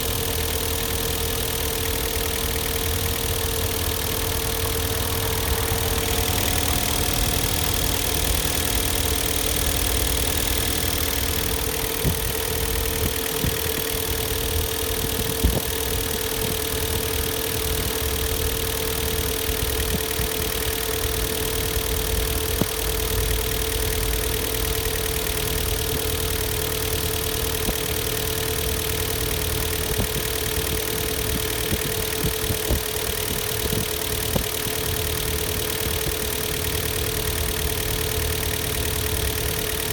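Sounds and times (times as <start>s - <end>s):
car engine idling: 0.0s - 39.9s
engine ticking: 0.0s - 39.9s.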